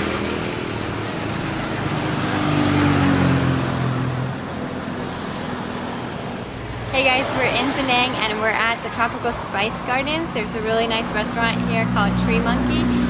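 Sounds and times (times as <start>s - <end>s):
vehicle driving past: 0.0s - 13.0s.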